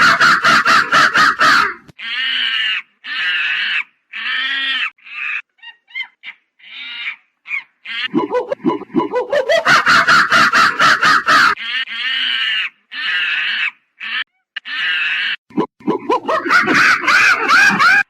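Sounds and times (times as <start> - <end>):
monkey calls: 0.0 - 18.0.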